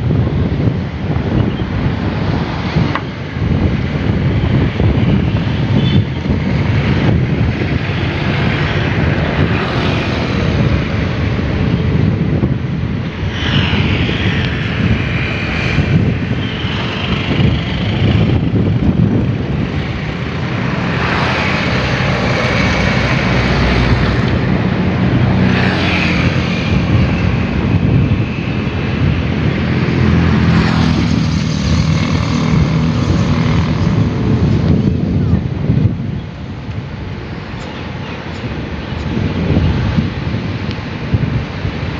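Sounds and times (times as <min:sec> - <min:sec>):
excavator diesel engines droning: 0:00.2 - 0:41.9.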